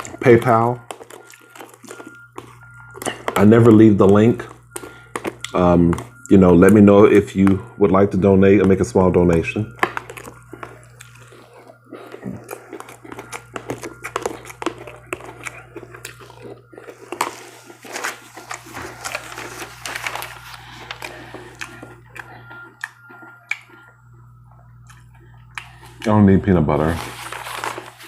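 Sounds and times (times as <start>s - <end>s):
chewing crunchy cereal: 0.0s - 28.0s
low hum: 0.0s - 28.0s.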